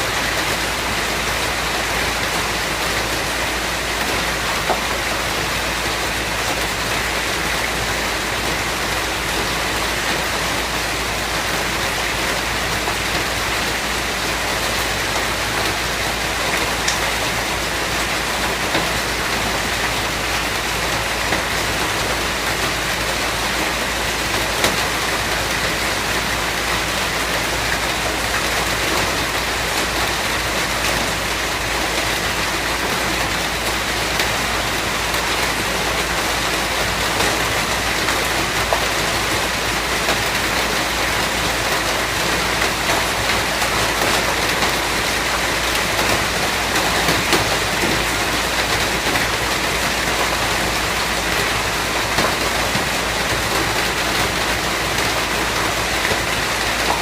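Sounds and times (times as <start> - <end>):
rain falling on surface: 0.0 - 57.0.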